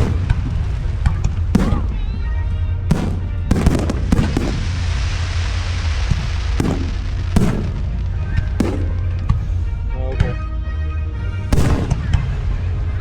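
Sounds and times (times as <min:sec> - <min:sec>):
firework bangs: 0:00.0 - 0:09.9, 0:11.5 - 0:12.9
hissing crackle of fireworks: 0:00.0 - 0:09.9, 0:11.5 - 0:13.0.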